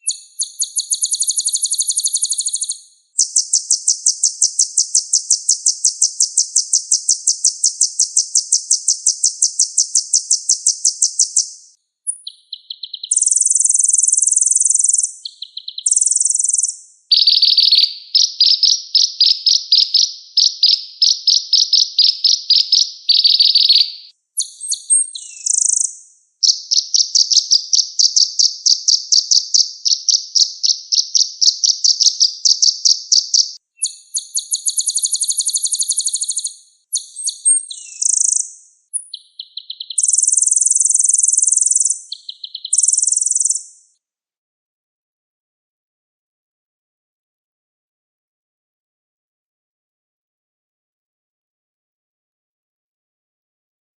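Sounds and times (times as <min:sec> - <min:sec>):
sunbird singing fast trills: 0:00.0 - 0:44.0.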